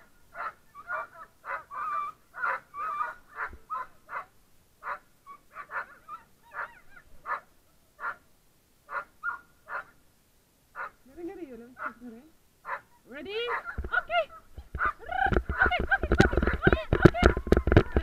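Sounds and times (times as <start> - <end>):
sled dogs yelping and barking: 0.0 - 8.2, 8.9 - 10.0, 10.8 - 11.0, 12.7 - 18.0.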